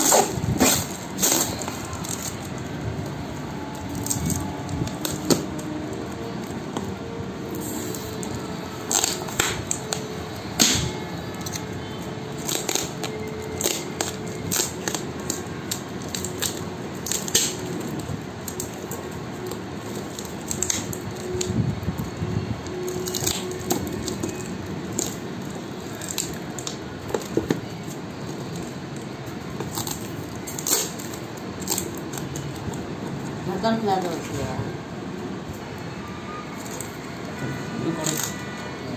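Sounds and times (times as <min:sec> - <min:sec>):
paper and tape crinkling and tearing: 0:00.0 - 0:38.9
steady background hum: 0:00.0 - 0:38.9.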